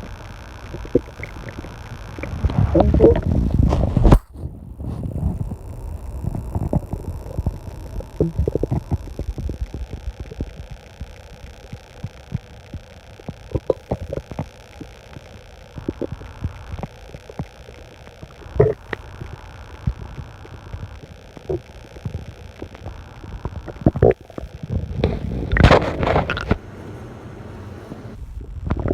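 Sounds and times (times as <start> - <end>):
stomach growling: 0.0 - 28.9.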